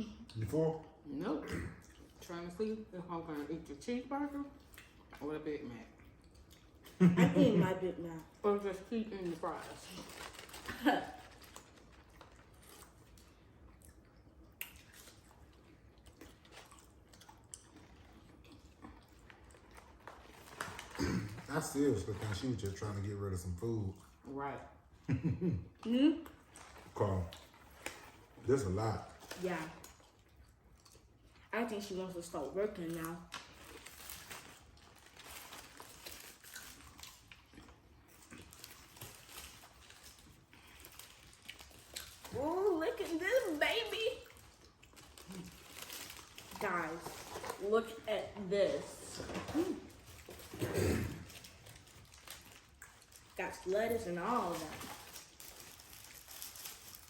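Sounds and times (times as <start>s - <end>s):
people chewing food: 0.0s - 57.0s.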